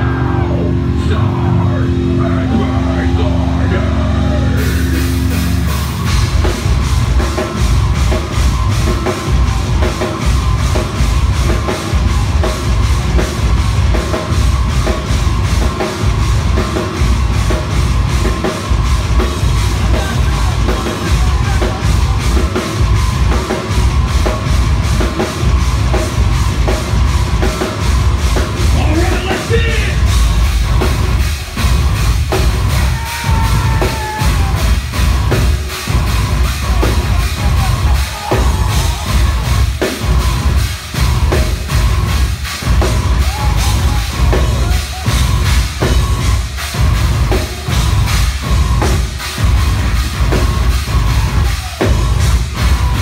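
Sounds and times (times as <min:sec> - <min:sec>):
bass drum pounding: 0:00.0 - 0:53.0
distorted electric guitars: 0:00.0 - 0:53.0
drum kit: 0:00.0 - 0:53.0.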